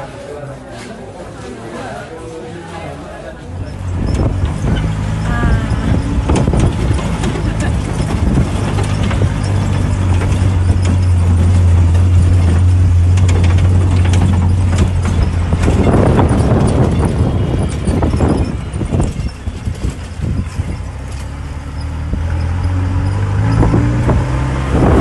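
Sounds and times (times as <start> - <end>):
jeep engine droning: 3.5 - 25.0
knocks and rattles: 3.5 - 25.0
wind buffeting microphone: 3.6 - 25.0.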